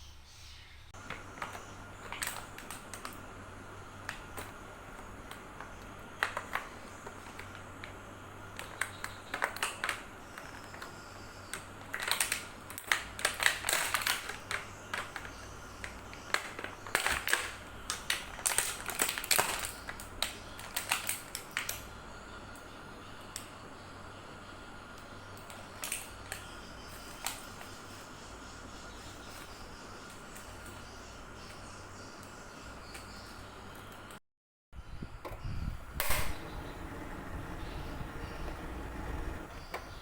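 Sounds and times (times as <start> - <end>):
faint steady hum: 0.0 - 34.2, 34.8 - 40.0.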